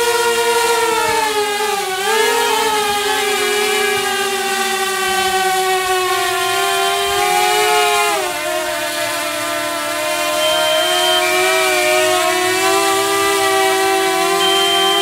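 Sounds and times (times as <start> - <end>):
drone propeller whine: 0.0 - 15.0.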